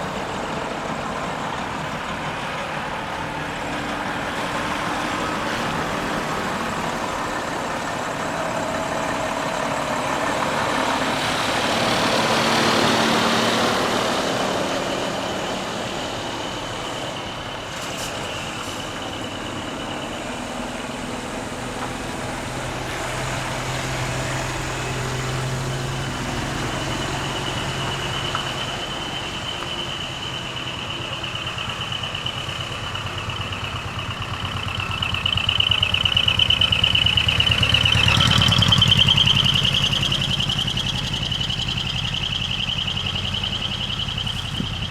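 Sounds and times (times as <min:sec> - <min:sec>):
diesel truck engines running: 0:00.0 - 0:44.9.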